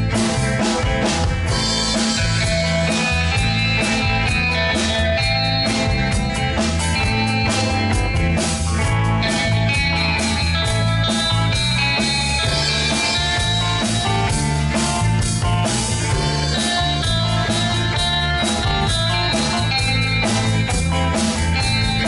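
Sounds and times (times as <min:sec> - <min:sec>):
bass guitar: 0:00.0 - 0:22.0
drum kit: 0:00.0 - 0:22.0
electric guitars: 0:00.0 - 0:22.0.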